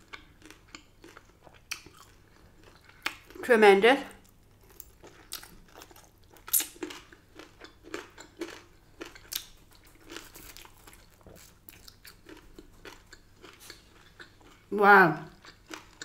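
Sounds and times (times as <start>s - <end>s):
person crunching chicken wings: 0.0s - 3.4s, 4.2s - 14.7s, 15.4s - 16.0s.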